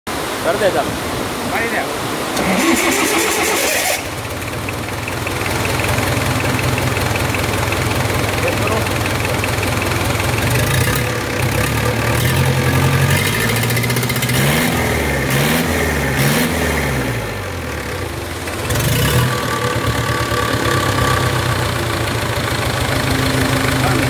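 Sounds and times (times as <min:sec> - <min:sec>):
diesel engine revving and idling: 0:02.4 - 0:24.0.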